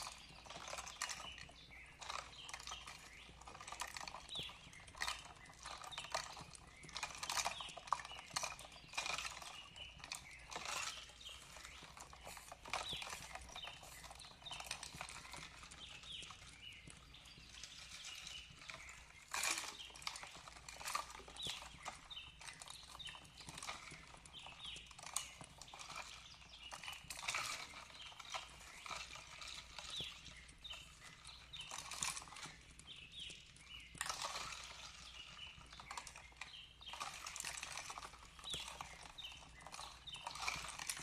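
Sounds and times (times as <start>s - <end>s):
fireplace crackling and popping: 0.0s - 41.0s
small birds chirping: 0.0s - 41.0s.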